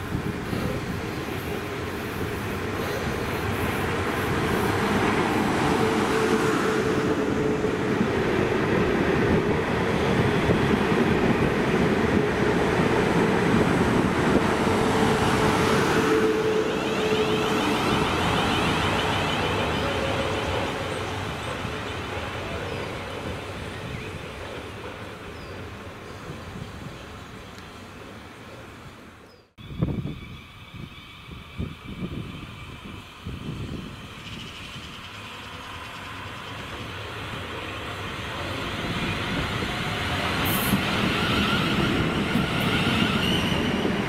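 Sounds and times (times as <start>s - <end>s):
train running through station: 0.0s - 44.0s.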